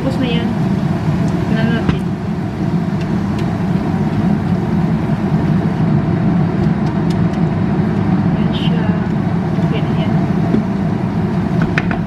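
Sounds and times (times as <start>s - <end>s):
kitchen background rumble: 0.0s - 12.0s.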